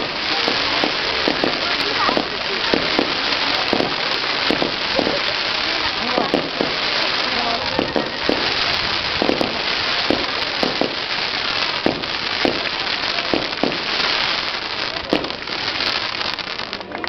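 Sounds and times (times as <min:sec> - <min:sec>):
fireworks bangs: 0:00.0 - 0:17.0
fireworks crackling hiss: 0:00.0 - 0:17.0.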